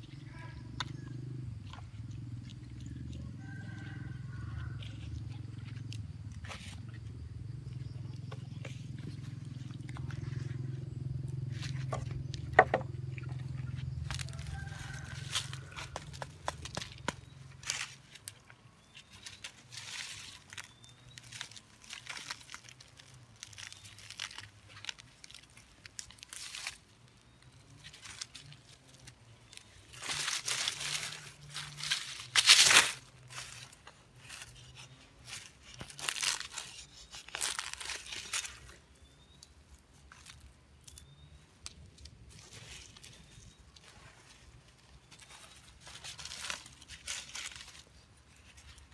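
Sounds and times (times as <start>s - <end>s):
dry leaves crunching and rustling: 2.0s - 48.9s.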